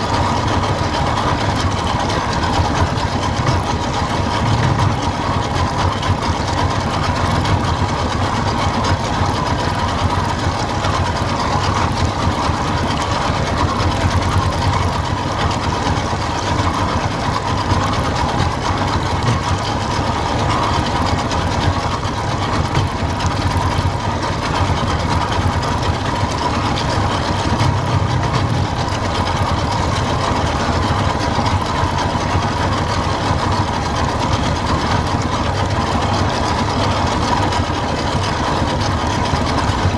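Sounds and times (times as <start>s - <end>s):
boat motor humming: 0.0s - 39.9s.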